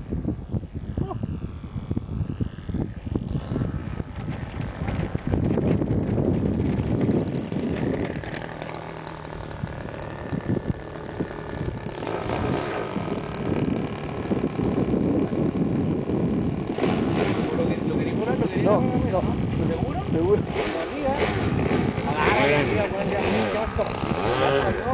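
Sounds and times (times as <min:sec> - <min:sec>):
model airplane engine idling: 0:00.0 - 0:24.9
wind buffeting microphone: 0:00.0 - 0:24.9.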